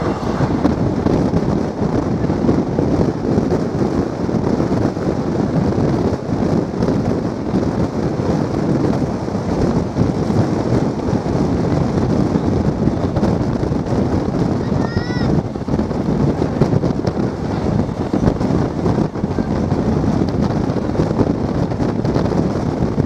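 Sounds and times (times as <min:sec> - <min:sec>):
train wheels rumbling on track: 0:00.0 - 0:23.0
wind rushing: 0:00.0 - 0:23.0.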